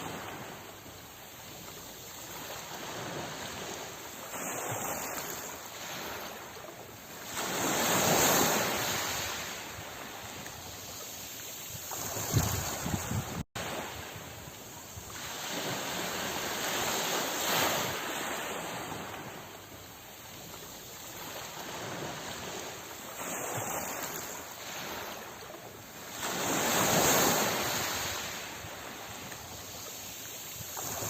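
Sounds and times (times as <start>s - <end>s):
sea waves breaking: 0.0s - 31.0s.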